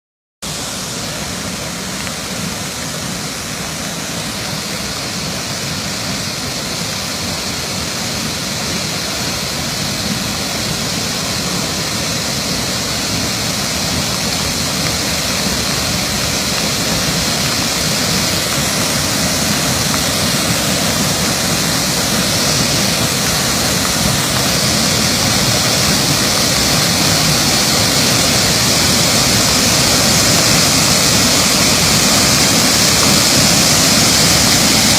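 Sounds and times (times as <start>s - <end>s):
waterfall roaring: 0.4s - 34.9s.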